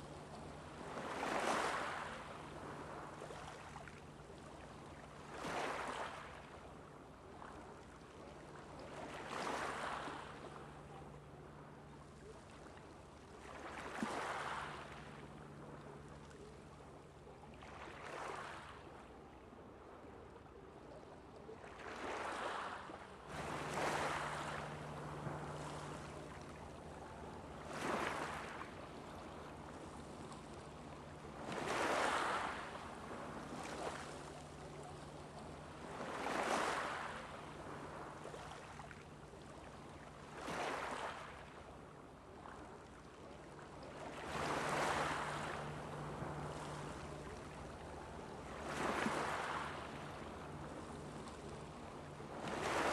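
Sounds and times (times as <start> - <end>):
small waves washing onto beach: 0.0 - 19.9, 20.6 - 52.9
faint low hum: 0.0 - 52.9.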